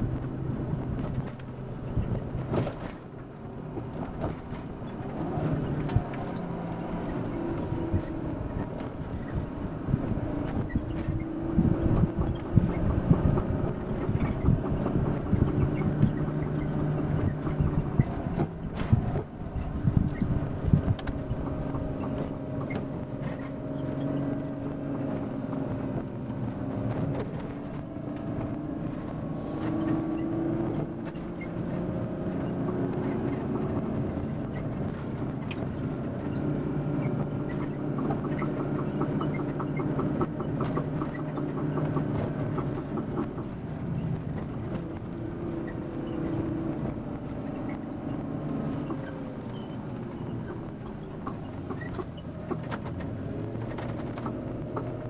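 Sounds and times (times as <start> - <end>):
van engine and road noise: 0.0 - 55.0.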